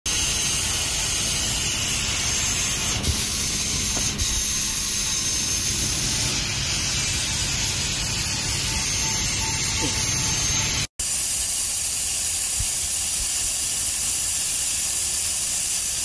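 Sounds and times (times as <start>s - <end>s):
steady hiss: 0.1s - 16.0s.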